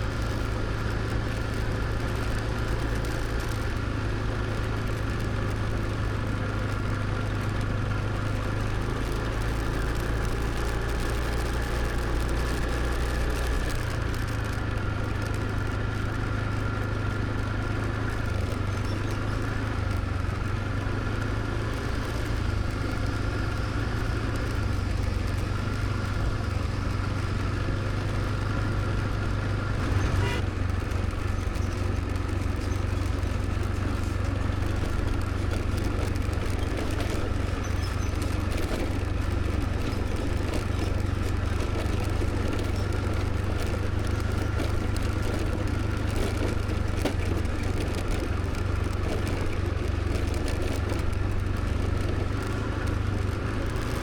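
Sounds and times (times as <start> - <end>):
scooter engine and road noise: 0.0 - 54.0.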